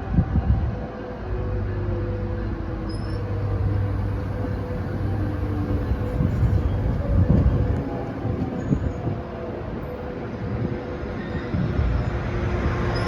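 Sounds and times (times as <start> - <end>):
diesel locomotive engine hum: 0.0 - 13.0
rail rumbling: 0.0 - 13.0.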